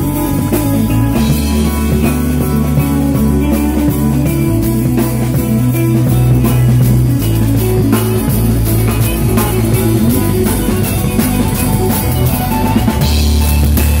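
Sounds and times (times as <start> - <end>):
bass guitar low notes: 0.0 - 14.0
drum kit with cymbals: 0.0 - 14.0.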